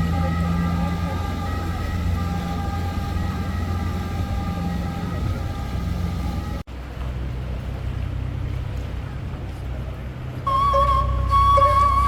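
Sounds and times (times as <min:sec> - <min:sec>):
dull hum: 0:00.0 - 0:12.0
motor vehicle running: 0:00.0 - 0:12.0.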